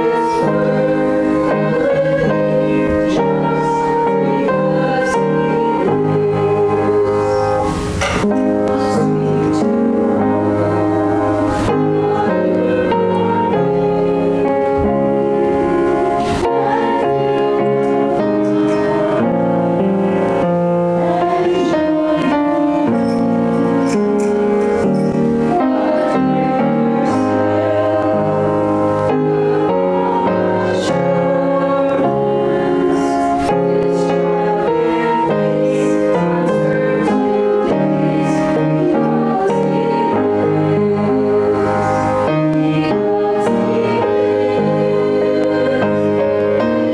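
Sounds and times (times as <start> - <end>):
keyboard chords: 0.0 - 46.9
women singing a hymn: 0.0 - 46.9.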